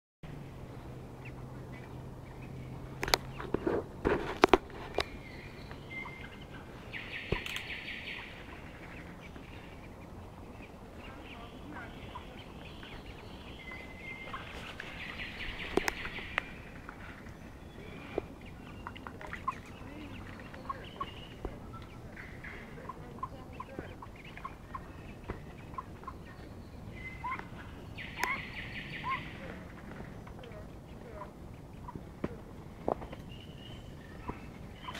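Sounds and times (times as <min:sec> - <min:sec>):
ducks calling softly: 0:00.6 - 0:34.9.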